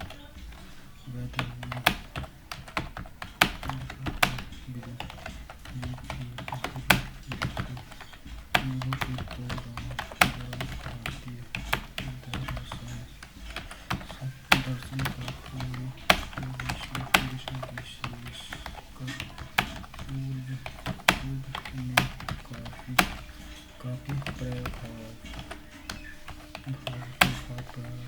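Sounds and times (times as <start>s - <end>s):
typing on computer keyboard: 0.0s - 28.0s.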